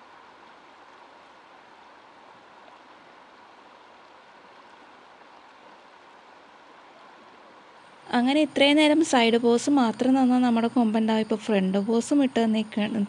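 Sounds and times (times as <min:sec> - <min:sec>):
faint rushing river water: 0:00.0 - 0:13.0.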